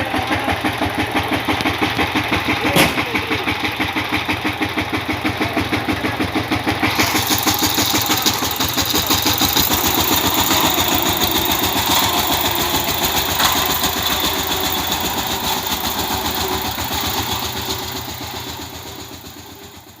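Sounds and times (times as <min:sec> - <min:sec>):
diesel tiller engine running: 0:00.0 - 0:20.0.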